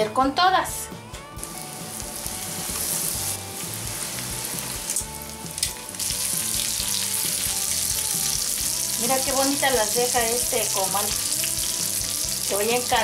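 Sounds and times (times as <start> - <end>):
meat sizzling in hot oil: 1.4 - 13.0.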